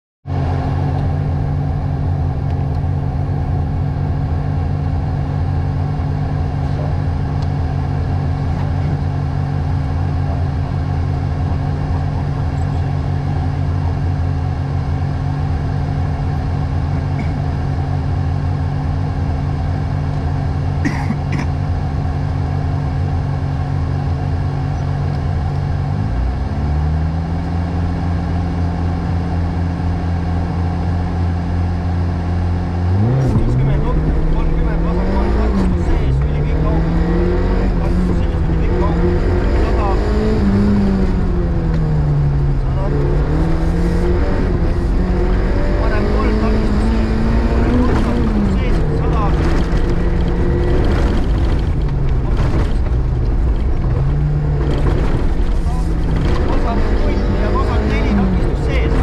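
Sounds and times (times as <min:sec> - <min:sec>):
car engine idling: 0:00.2 - 0:59.0.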